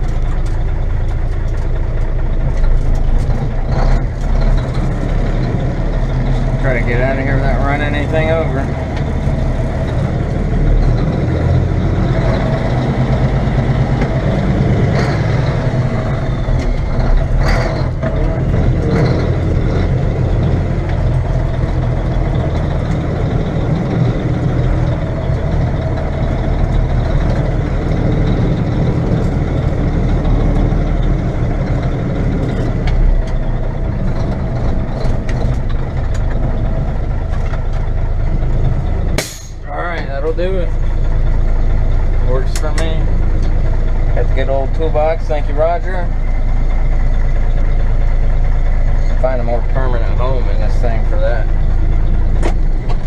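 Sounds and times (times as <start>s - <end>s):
diesel truck engine rumble: 0.0s - 53.0s.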